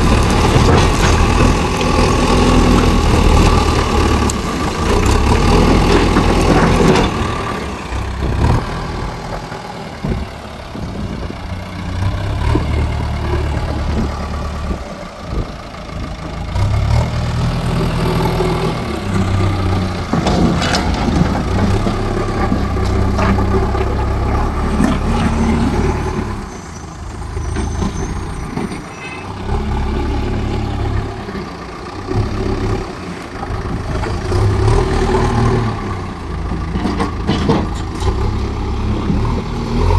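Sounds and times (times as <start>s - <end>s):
diesel loader engine working: 0.0s - 39.9s.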